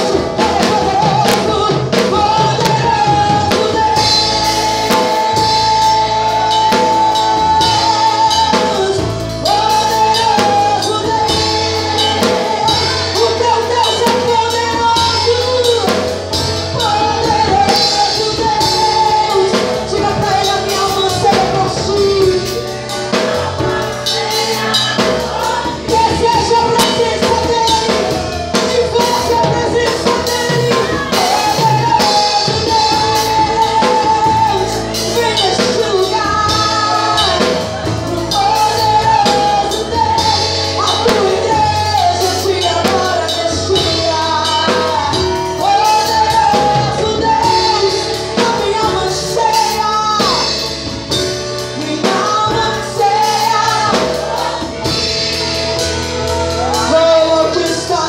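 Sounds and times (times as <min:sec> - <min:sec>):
drum beat with cymbals: 0:00.0 - 0:58.0
electronic keyboard melody: 0:00.0 - 0:58.0.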